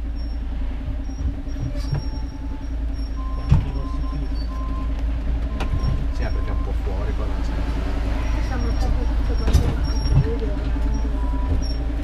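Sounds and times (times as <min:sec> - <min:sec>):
road train rumble and hum: 0:00.0 - 0:12.0.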